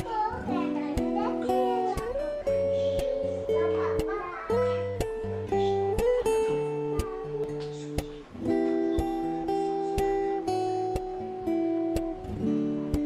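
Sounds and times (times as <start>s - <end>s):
acoustic guitar music with beat: 0.0s - 13.0s.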